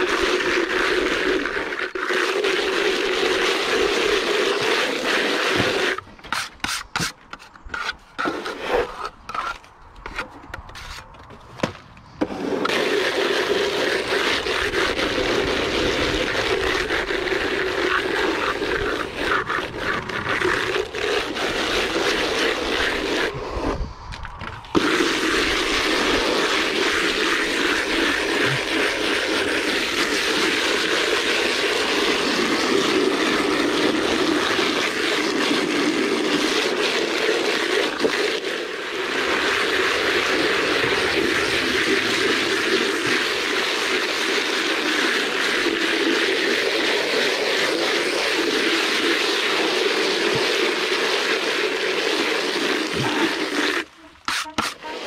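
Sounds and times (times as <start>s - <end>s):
scraping and rubbing of render: 0.0s - 55.0s.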